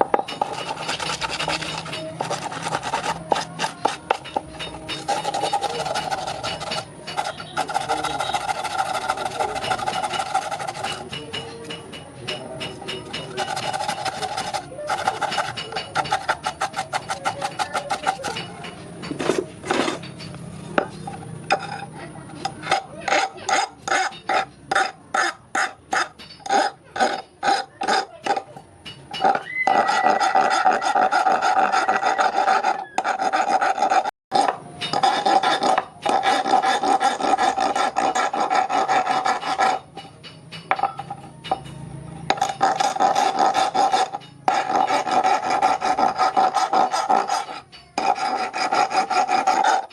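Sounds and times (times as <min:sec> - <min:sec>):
file rasping on metal: 0:00.0 - 0:41.3, 0:42.3 - 0:49.9.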